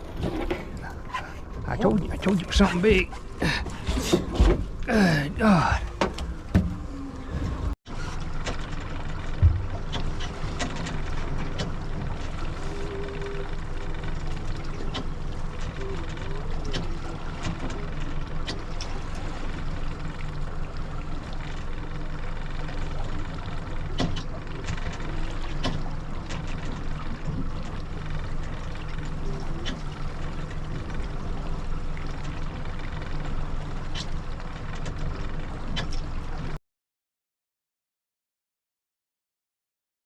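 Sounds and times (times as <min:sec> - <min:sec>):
boat engine droning: 0:00.0 - 0:36.6.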